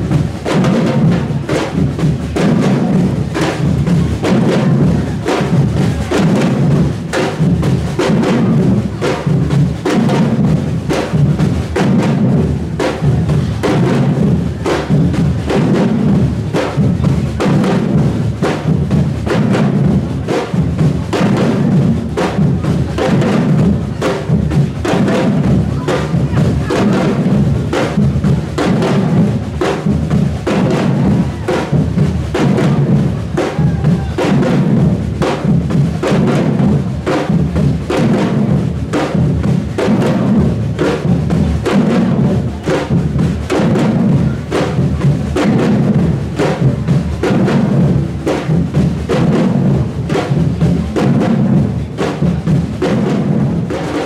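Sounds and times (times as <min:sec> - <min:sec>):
deep bass drum beats: 0:00.0 - 0:53.9
street drumming band: 0:00.0 - 0:54.0.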